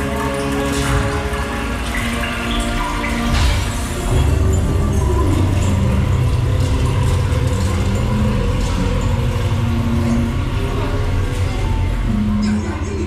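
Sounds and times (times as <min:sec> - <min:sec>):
deep steady rumble: 0:00.8 - 0:13.0.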